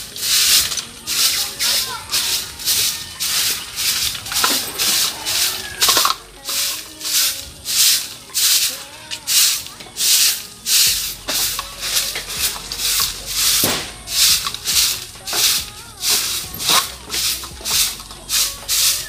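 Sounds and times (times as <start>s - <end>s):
broom sweeping dirt and gravel: 0.0s - 19.0s.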